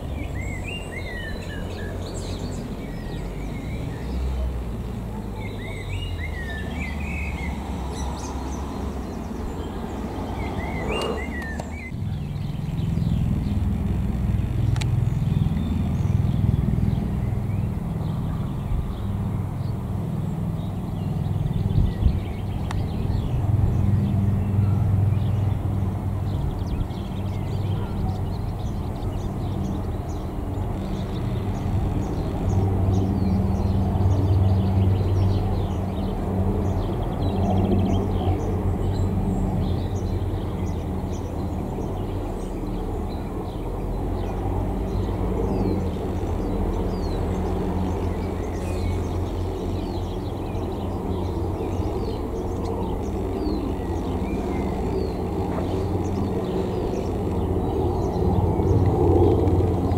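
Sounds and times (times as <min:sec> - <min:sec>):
helicopter flying past: 0:00.0 - 0:59.9
small birds chirping: 0:00.0 - 0:59.9.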